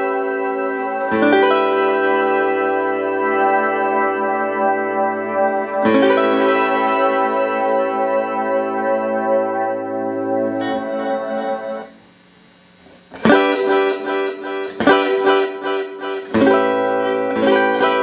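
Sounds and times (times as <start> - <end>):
electric guitar chords with delay: 0.0 - 12.1, 13.1 - 18.0.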